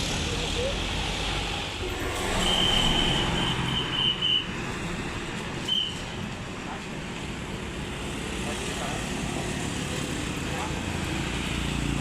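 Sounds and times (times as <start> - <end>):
bus engine running: 0.0 - 12.0
road traffic: 0.0 - 12.0.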